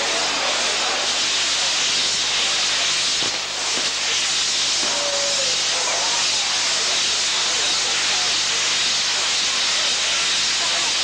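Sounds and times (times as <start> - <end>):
fireworks fountain hissing: 0.0 - 11.0.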